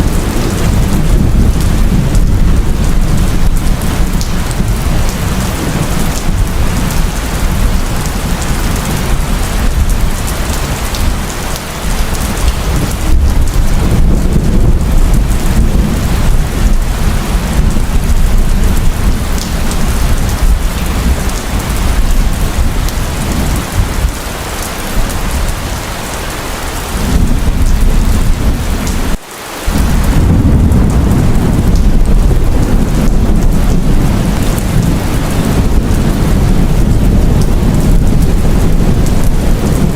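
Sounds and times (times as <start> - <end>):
low rumble of thunder: 0.0 - 25.8, 26.8 - 39.9
heavy rain pouring: 0.0 - 39.9.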